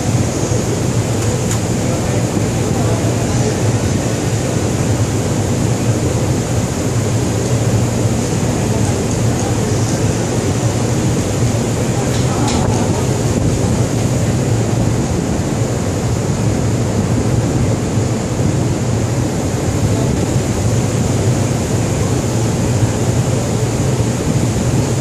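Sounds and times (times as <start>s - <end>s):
ship machinery drone: 0.0s - 25.0s.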